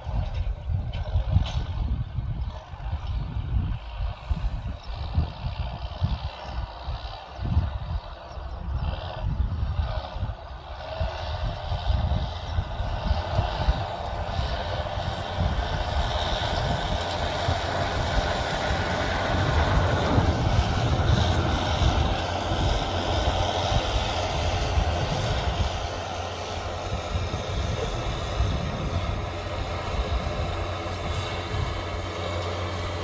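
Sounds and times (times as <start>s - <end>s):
tractor diesel engine running: 0.1s - 33.0s.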